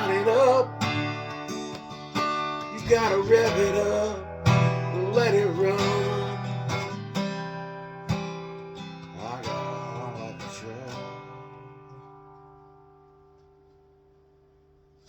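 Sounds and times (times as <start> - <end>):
country song on strummed guitar: 0.0 - 14.4.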